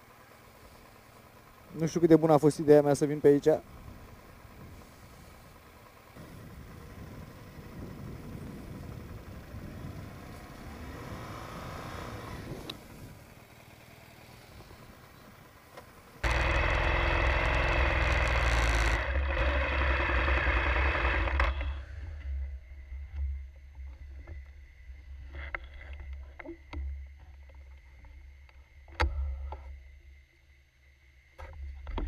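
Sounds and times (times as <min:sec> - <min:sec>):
motorcycle engine running: 0:00.0 - 0:28.1.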